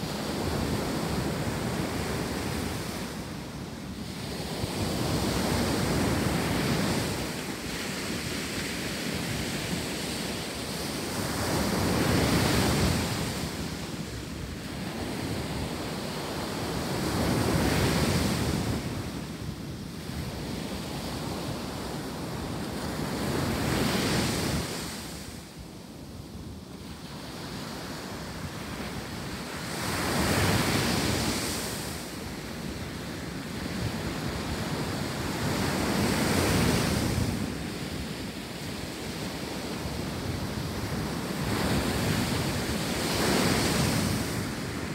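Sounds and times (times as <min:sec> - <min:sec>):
ocean surf breaking on beach: 0:00.0 - 0:44.9.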